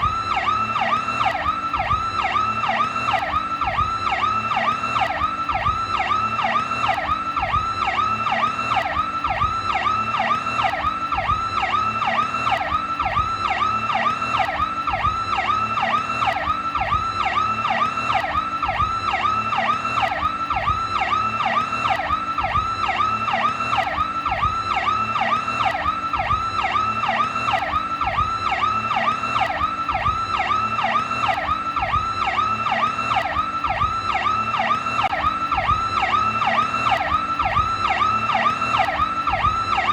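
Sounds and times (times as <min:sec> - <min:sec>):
police siren fast yelp: 0:00.0 - 0:39.9.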